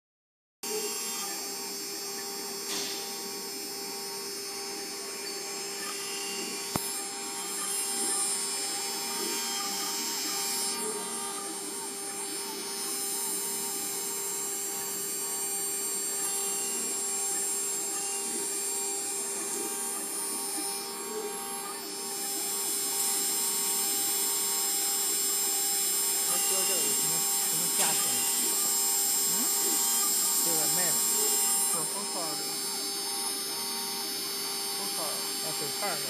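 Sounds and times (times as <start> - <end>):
router spindle whine: 0.6 - 36.0.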